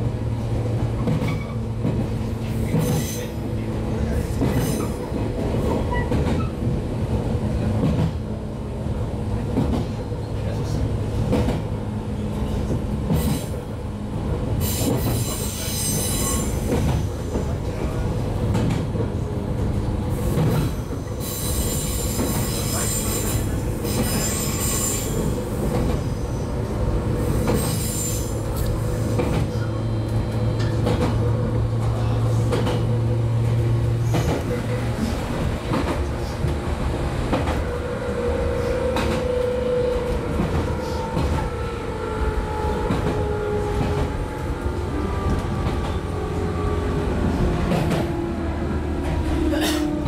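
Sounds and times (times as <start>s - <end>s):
train wheels rumbling on rail: 0.0s - 50.0s.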